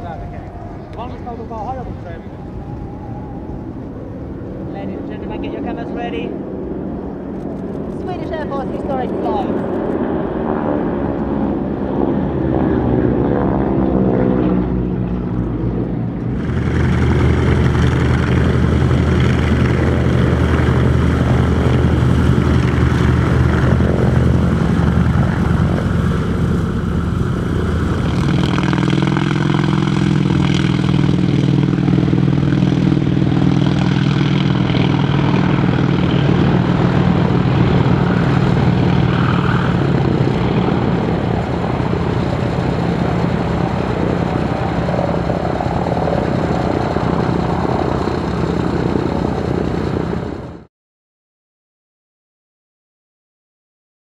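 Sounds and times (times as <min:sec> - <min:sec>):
radial engine running: 0:00.0 - 0:11.8, 0:14.9 - 0:50.7
aircraft engine running on ground: 0:00.0 - 0:50.7
propeller aircraft passing: 0:00.0 - 0:50.7.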